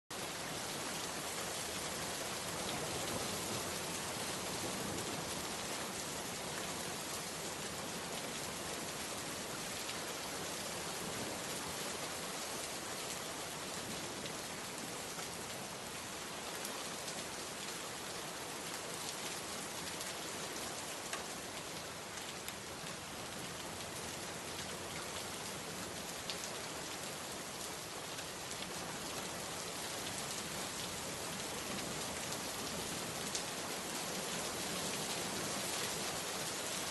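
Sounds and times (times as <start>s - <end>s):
rain pattering on a surface: 0.1s - 36.9s.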